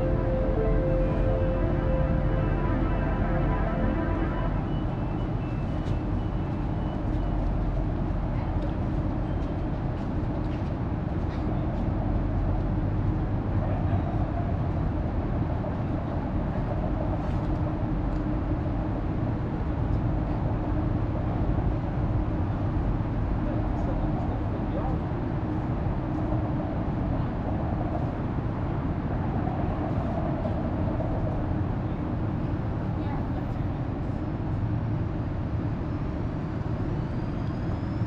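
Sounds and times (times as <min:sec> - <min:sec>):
train rumble and hum: 0:00.0 - 0:38.0.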